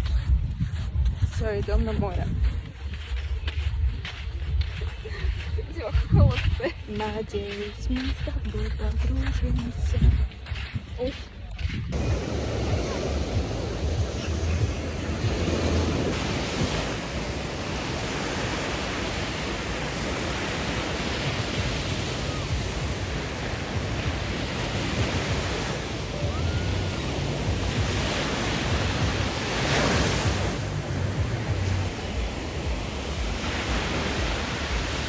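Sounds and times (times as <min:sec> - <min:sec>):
small waves washing ashore: 0:00.0 - 0:35.0
wind buffeting microphone: 0:00.0 - 0:35.0.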